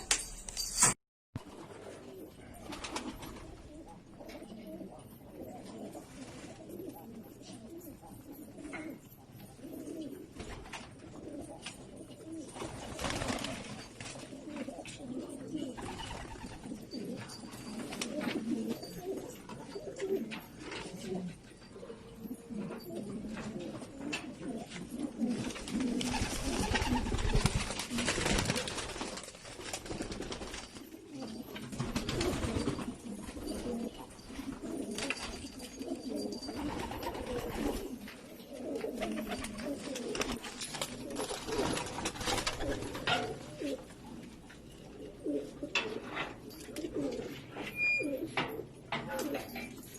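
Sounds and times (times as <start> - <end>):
pigeons cooing: 1.6 - 29.0, 30.0 - 49.9.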